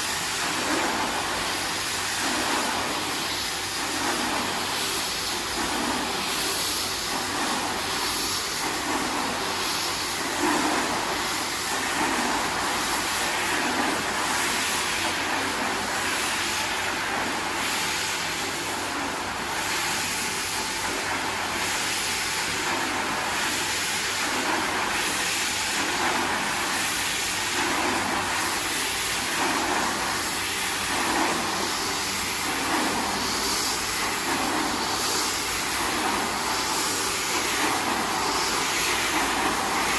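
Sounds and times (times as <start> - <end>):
carpet scrubbing machine swishing: 0.0 - 39.9.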